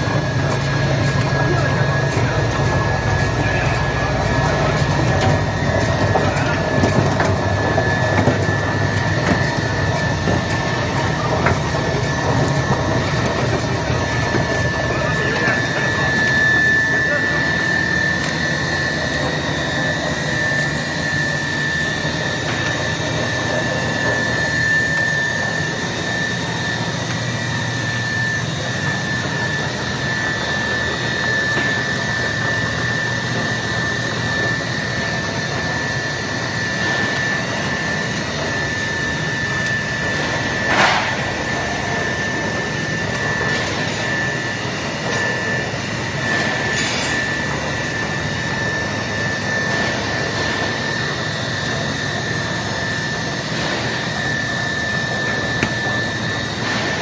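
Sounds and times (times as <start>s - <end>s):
machine drone with high whine: 0.0s - 57.0s.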